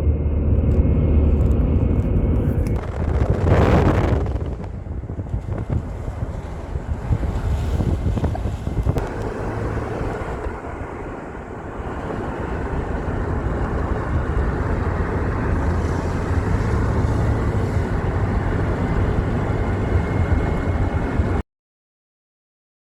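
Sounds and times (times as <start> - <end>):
steady low rumble: 0.0 - 21.4
wind buffeting microphone: 0.0 - 21.4.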